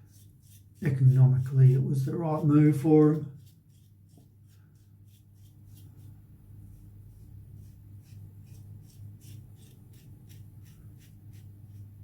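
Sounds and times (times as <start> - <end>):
razor scraping stubble: 0.0 - 11.9
low steady hum: 0.0 - 12.0.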